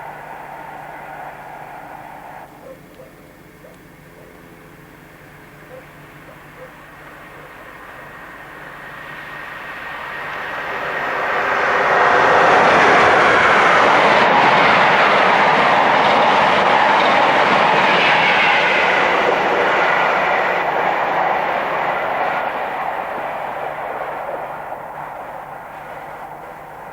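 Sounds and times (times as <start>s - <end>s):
electric train passing: 0.0s - 26.9s.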